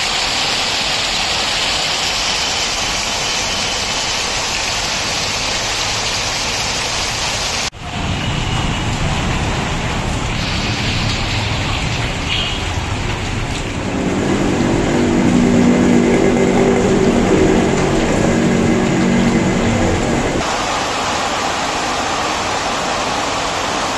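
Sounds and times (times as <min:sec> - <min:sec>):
heavy rain pouring onto water: 0:00.0 - 0:23.9.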